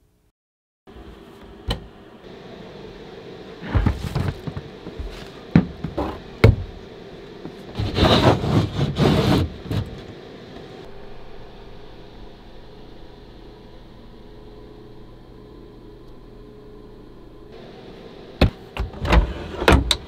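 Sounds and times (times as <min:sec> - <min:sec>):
steady low hum: 0:00.9 - 0:20.0.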